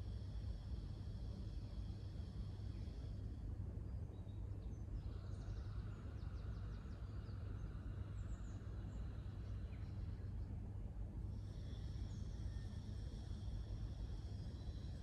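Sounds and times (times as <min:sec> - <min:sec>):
low outdoor rumble: 0:00.0 - 0:15.0
faint bird chirps: 0:00.1 - 0:10.6, 0:11.3 - 0:15.0.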